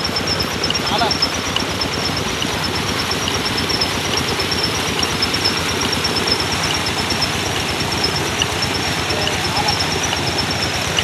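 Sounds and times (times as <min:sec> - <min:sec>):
pump engine chugging: 0:00.0 - 0:11.0.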